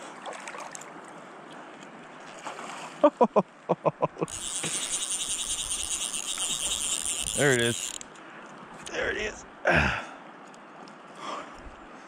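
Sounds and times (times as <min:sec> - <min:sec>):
river water: 0:00.0 - 0:12.0
wind: 0:00.0 - 0:12.0.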